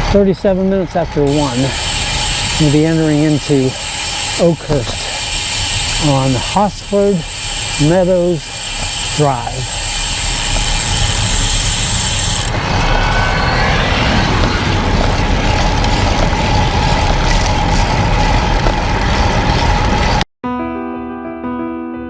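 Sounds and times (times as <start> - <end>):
wind on microphone: 0.0 - 20.2
bike tyre and road noise: 0.0 - 20.3.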